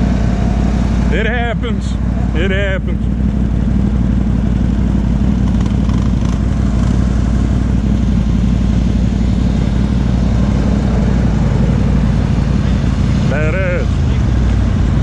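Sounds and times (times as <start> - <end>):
atv engines rumbling: 0.0 - 15.0.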